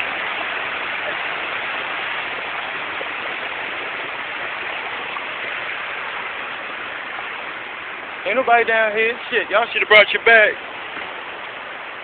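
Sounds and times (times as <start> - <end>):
river rushing water: 0.0 - 12.0.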